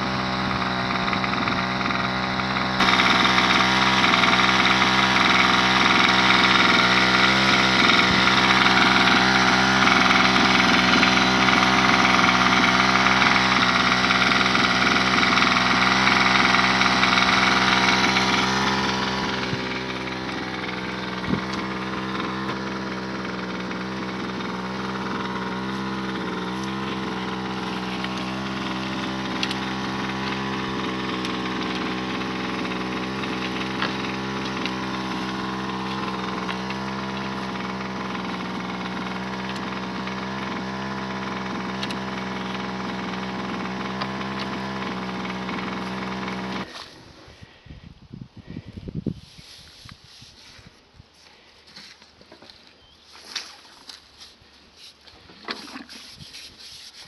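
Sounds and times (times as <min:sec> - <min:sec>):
water pump engine running: 0:00.0 - 0:47.3, 0:54.8 - 0:57.0.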